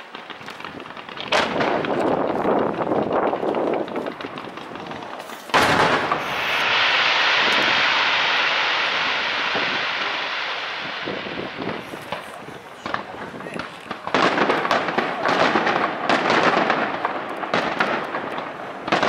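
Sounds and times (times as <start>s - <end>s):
firework bang: 0.0s - 19.0s
firework hiss: 0.0s - 19.0s
fireworks crackling: 0.0s - 19.0s.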